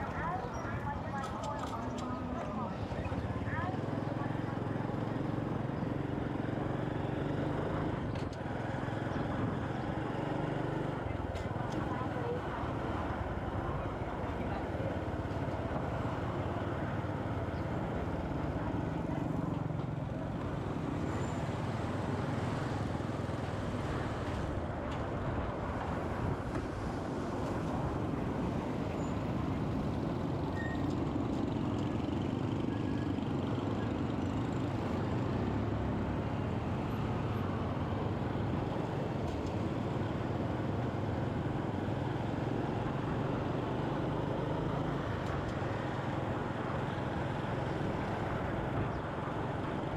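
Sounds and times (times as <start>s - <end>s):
motorcycle and traffic rumble: 0.0s - 49.9s.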